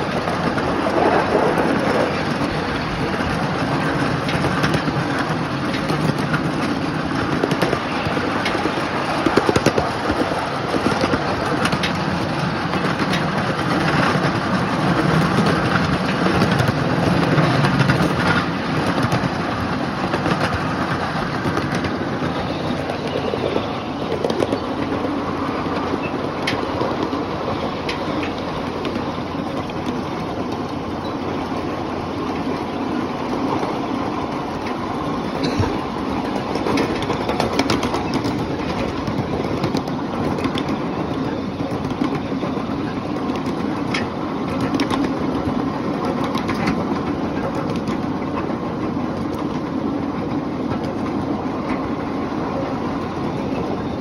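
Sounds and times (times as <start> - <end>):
train cars clicking and rattling: 0.0 - 54.0
train wheels rumbling on rails: 0.0 - 54.0.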